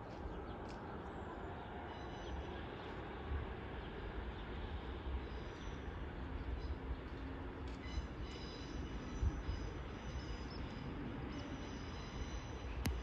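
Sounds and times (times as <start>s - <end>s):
distant diesel train rumble: 0.0s - 13.0s.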